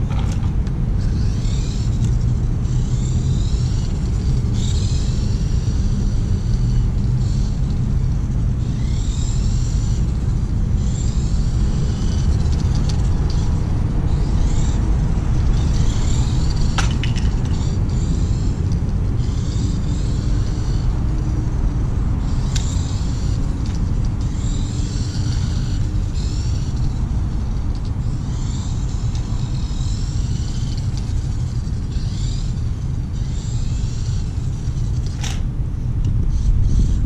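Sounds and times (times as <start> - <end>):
small electric motor whining: 0.0 - 37.0.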